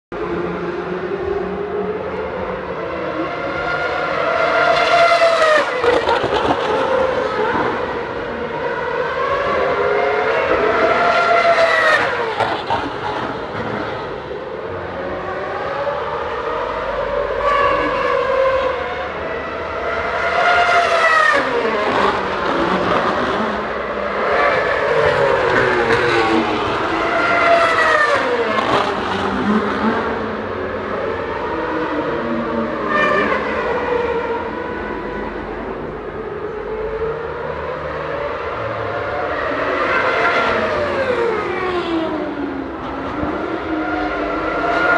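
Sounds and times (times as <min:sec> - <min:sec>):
racing cars passing at high revs: 0:00.2 - 0:44.9.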